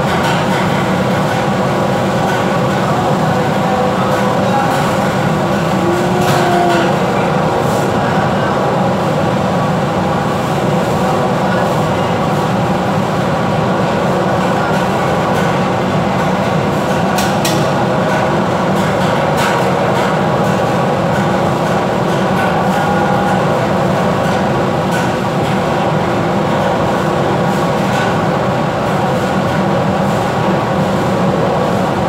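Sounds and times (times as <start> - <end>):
ship engines droning: 0.0 - 32.0.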